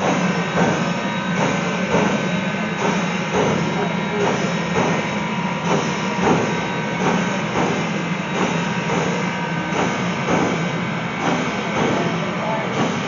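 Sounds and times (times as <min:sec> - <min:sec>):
steam hiss and rumble: 0:00.0 - 0:13.0
steam locomotive chuffing: 0:00.0 - 0:13.0.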